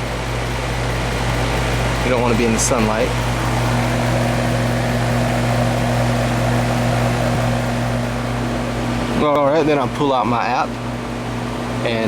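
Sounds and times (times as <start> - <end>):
compressor hum: 0.0 - 12.0
fan rushing: 0.0 - 12.0.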